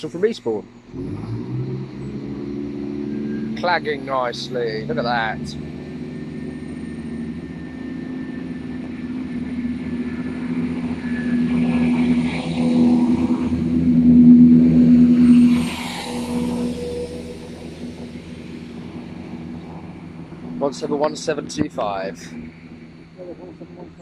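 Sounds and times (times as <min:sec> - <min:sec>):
diesel train engines running hard: 0:00.0 - 0:24.0.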